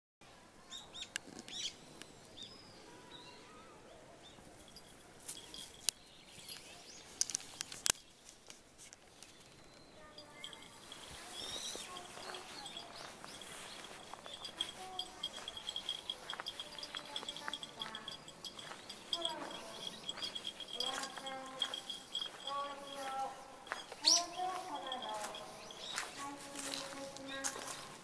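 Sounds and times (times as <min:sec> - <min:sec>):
small birds chirping: 0:00.6 - 0:28.0.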